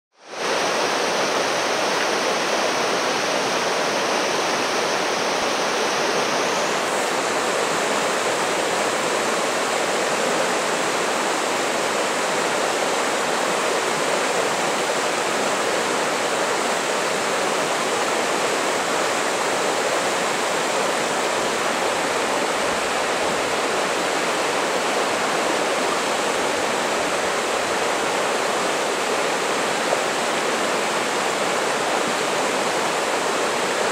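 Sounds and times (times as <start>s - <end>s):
river rushing over rocky rapids: 0.2s - 33.9s.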